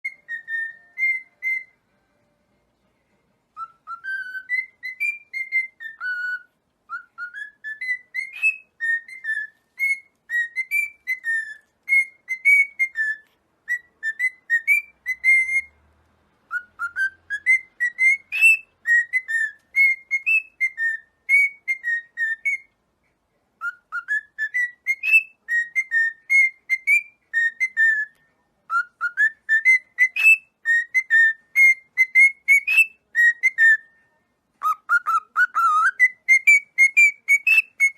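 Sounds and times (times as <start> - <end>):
cockatiel whistling a tune: 0.0 - 1.8, 3.5 - 22.8, 23.6 - 37.9.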